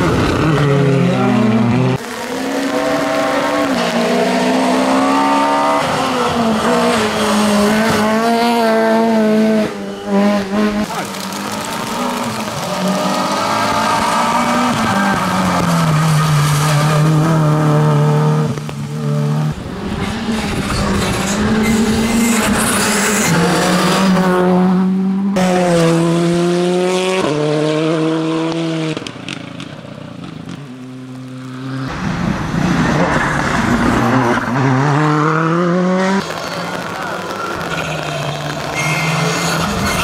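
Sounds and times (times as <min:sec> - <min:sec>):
rally cars racing past: 0:00.0 - 0:40.0.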